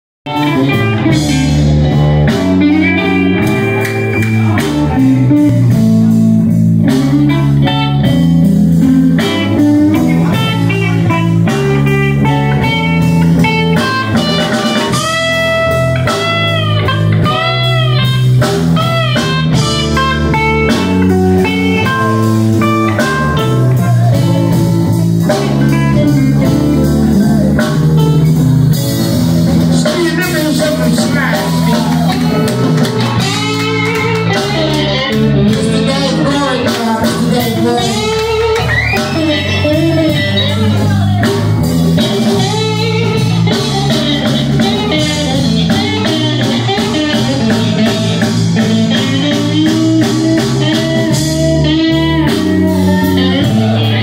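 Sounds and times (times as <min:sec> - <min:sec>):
bass line: 0:00.2 - 0:54.0
drums: 0:00.2 - 0:54.0
electric guitar lead: 0:00.2 - 0:54.0.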